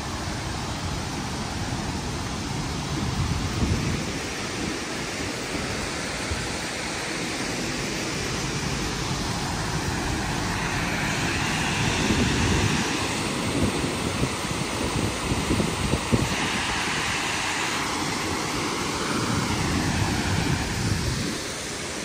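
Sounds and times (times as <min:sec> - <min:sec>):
waterfall rushing: 0:00.0 - 0:22.0
wind gusting on microphone: 0:00.0 - 0:22.0.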